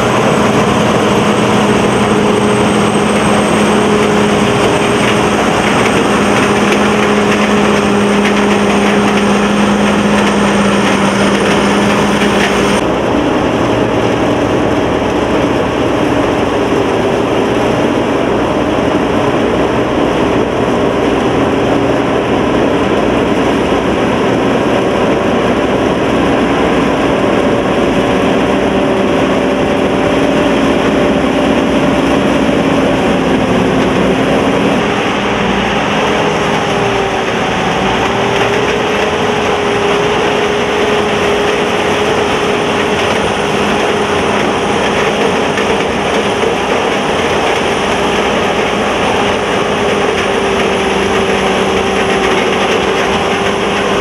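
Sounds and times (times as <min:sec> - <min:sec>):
combine harvester droning: 0:00.0 - 0:54.0.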